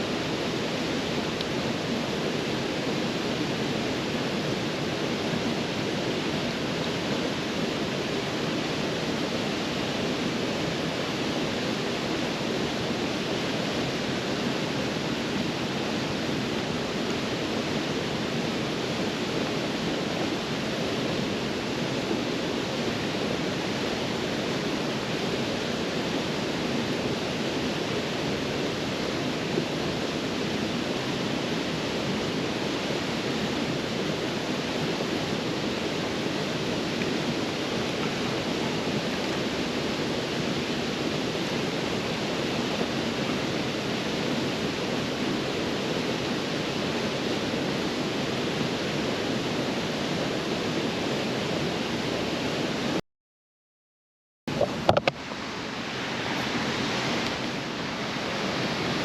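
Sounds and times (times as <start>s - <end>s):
waterfall rushing: 0.0s - 53.0s, 54.5s - 59.0s.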